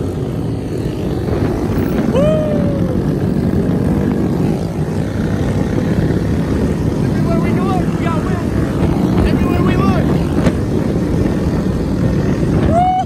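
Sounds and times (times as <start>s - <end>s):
small motorcycle engines rumbling: 0.0s - 13.0s.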